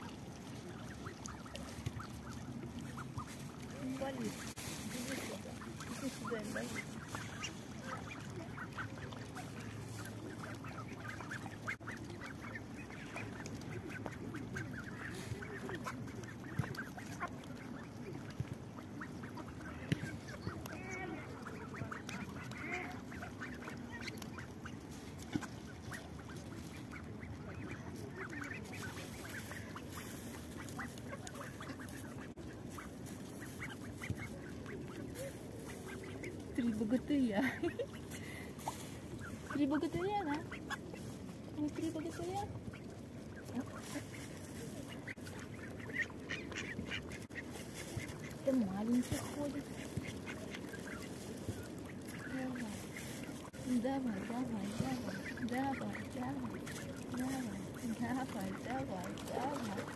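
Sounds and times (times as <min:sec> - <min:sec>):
bills pecking among stones: 0:00.0 - 0:59.9
ducks calling softly: 0:00.0 - 0:59.9.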